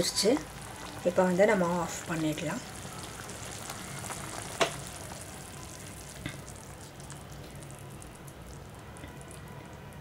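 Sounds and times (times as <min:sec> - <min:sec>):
liquid bubbling in a pot: 0:00.0 - 0:10.0.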